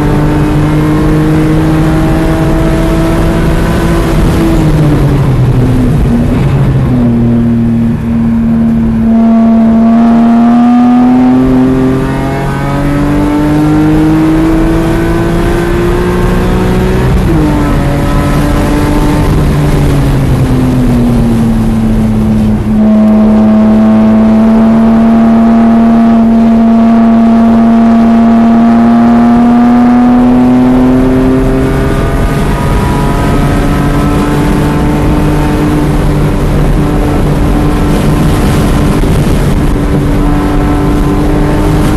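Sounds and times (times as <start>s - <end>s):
car engine revving: 0.0s - 41.9s
wind noise: 0.0s - 41.9s.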